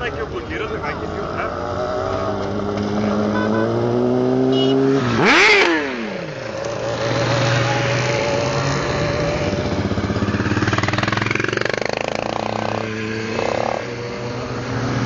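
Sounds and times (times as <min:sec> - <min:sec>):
motorcycle engine revving: 0:00.0 - 0:15.0
motorcycle engines running: 0:00.0 - 0:15.0.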